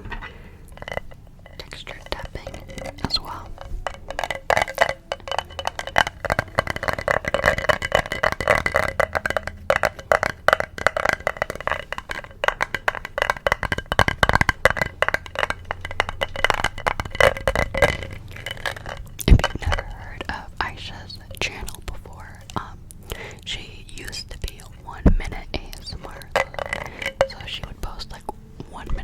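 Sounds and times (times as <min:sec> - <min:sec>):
fast tapping on hard object: 0:00.0 - 0:29.0.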